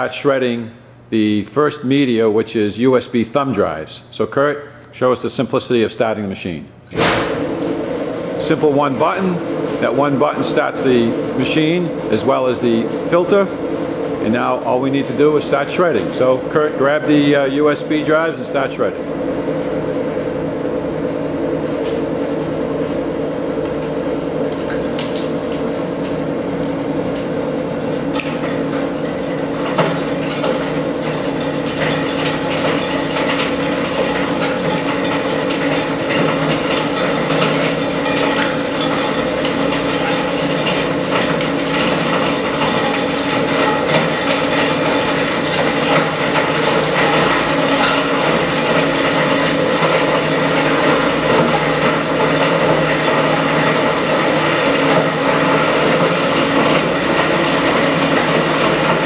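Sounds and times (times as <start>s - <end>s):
shredder machine humming: 6.9s - 59.0s.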